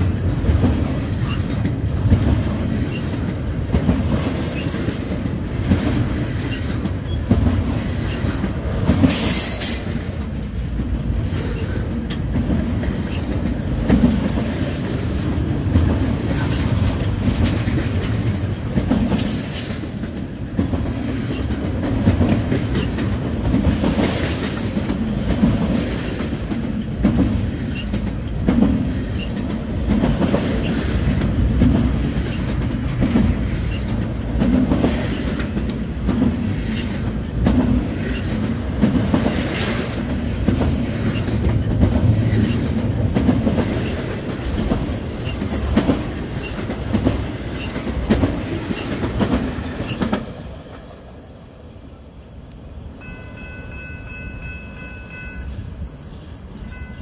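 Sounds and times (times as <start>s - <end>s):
wheels clicking over rail joints: 0.0s - 50.9s
train rumble: 0.0s - 57.0s.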